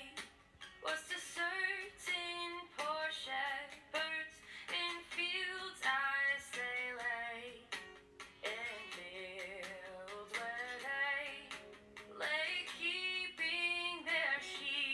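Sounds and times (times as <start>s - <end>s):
woman singing: 0.0s - 7.8s, 8.4s - 14.9s.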